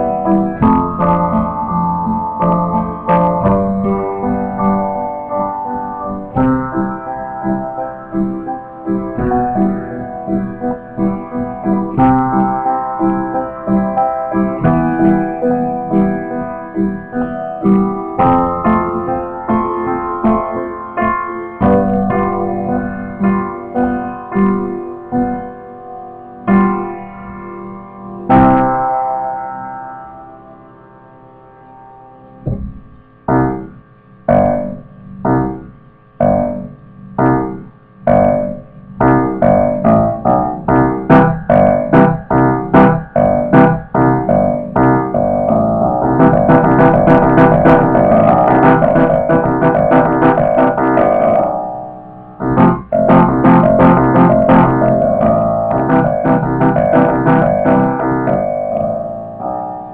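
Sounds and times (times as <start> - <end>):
solo piano: 0.0 - 59.9.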